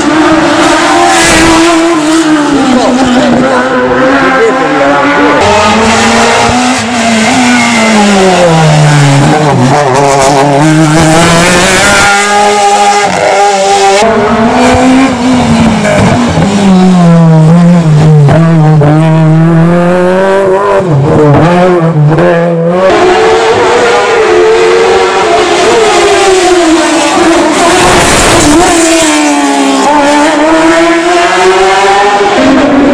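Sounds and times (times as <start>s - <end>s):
racing car engines accelerating: 0.0s - 32.9s.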